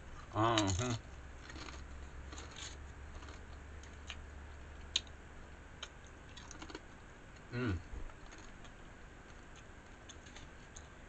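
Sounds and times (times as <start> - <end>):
low steady hum: 0.0 - 11.0
faint chewing: 0.1 - 5.2, 5.8 - 11.0.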